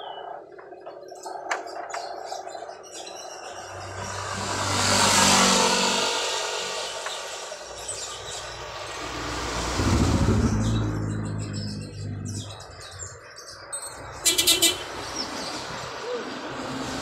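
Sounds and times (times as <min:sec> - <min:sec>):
vehicles passing by: 0:00.0 - 0:17.0.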